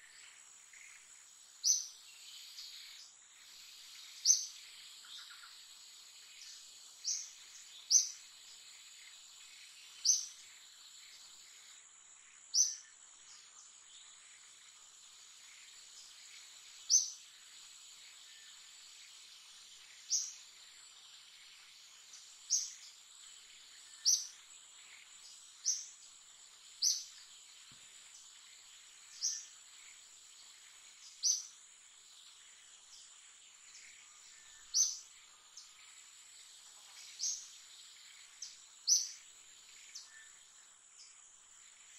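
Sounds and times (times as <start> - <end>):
bird chirping: 0.0 - 41.9
insects humming: 0.0 - 41.9.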